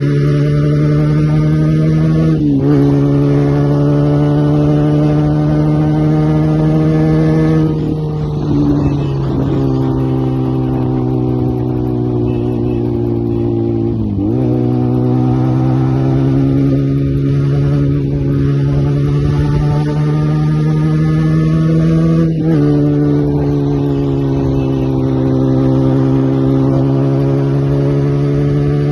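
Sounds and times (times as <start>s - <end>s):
motorcycle engine at steady revs: 0.0s - 28.9s.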